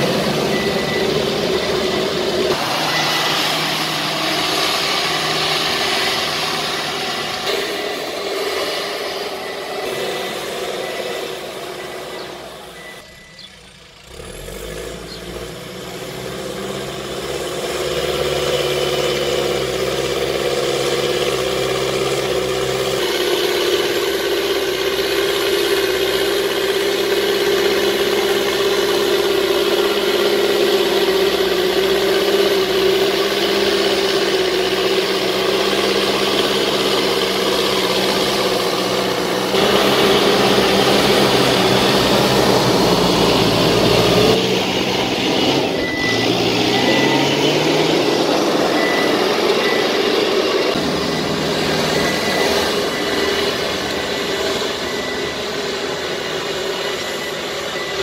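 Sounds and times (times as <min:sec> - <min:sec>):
diesel engine droning under load: 0:00.0 - 0:58.0.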